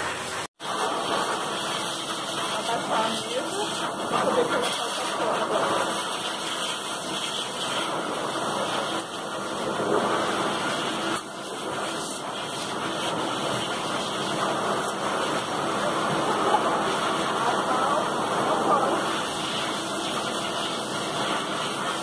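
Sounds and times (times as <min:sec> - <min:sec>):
pet dryer blowing air: 0:00.0 - 0:22.0.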